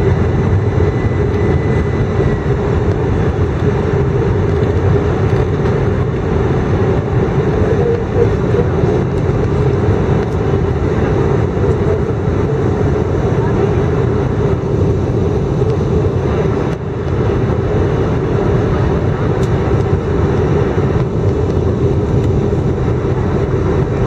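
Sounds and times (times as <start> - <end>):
jet engine and airflow noise: 0.0 - 24.0.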